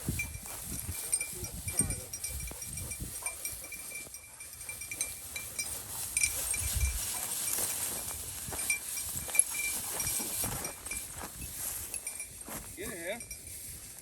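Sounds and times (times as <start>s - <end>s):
small bell jingling: 0.0s - 13.8s
rustling: 0.0s - 14.0s.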